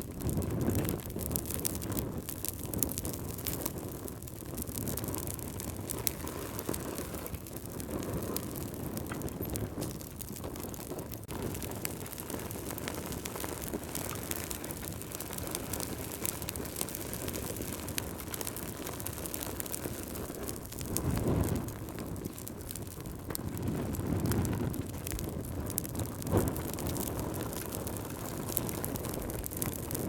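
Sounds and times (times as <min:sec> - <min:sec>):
fire crackling and popping: 0:00.0 - 0:30.0
low rush of flames: 0:00.0 - 0:30.0.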